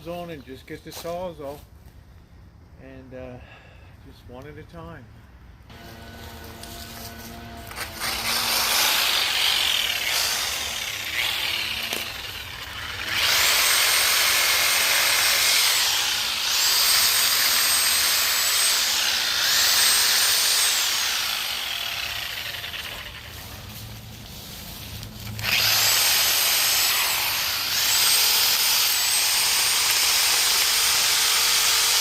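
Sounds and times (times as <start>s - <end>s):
reciprocating saw cutting branches: 5.7s - 32.0s.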